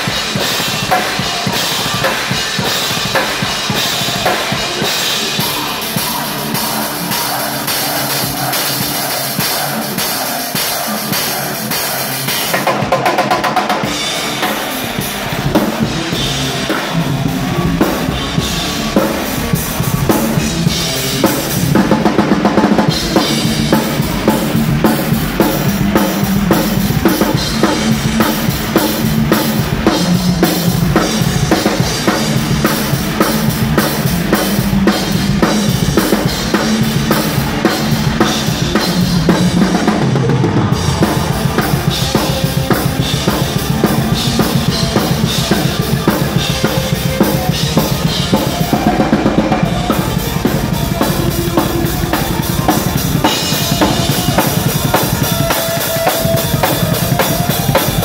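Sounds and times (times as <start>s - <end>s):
fast metal drumming: 0.0s - 58.0s
metal band playing: 0.0s - 58.0s.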